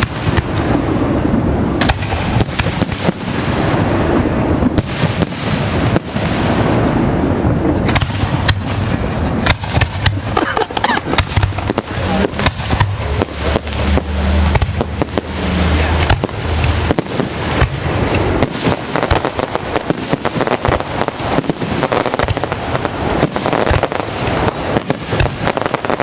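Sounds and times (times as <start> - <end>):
continuous rumble: 0.0 - 26.0
fireworks bangs: 0.0 - 26.0.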